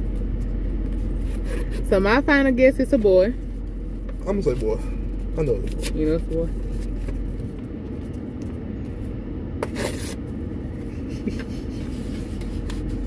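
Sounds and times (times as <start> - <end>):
car idling from inside: 0.0 - 13.0.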